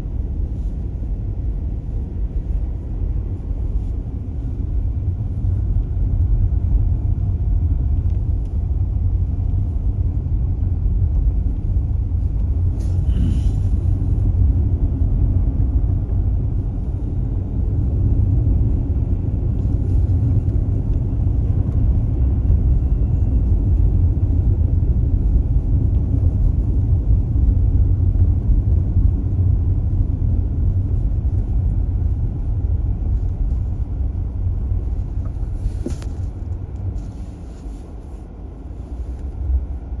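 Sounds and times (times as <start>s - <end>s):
tyre and road noise: 0.0s - 40.0s.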